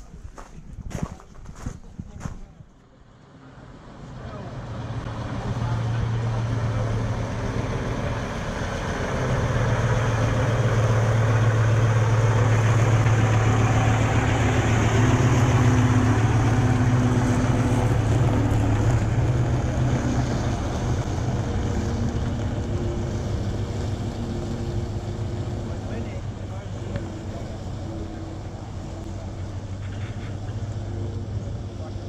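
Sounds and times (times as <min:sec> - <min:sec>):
bus diesel engine humming: 0:02.9 - 0:32.0.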